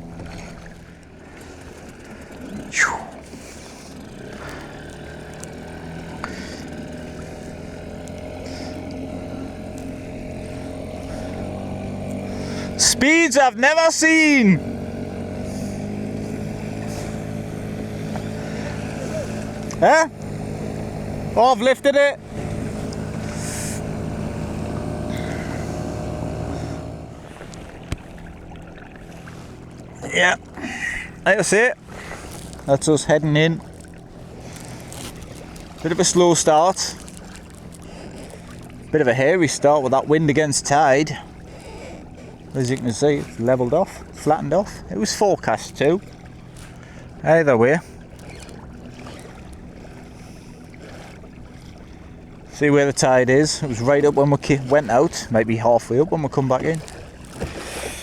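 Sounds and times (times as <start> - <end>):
outboard motor running: 0.0 - 58.0
water noise: 0.0 - 58.0.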